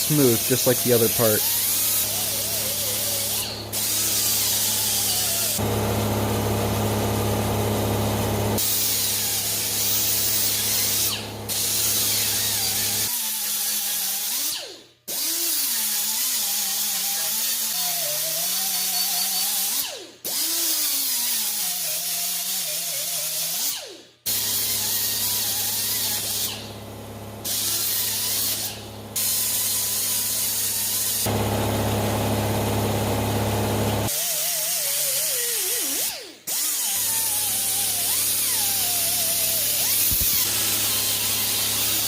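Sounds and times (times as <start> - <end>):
power grinder grinding metal: 0.0 - 6.9, 8.0 - 26.7, 27.4 - 42.0.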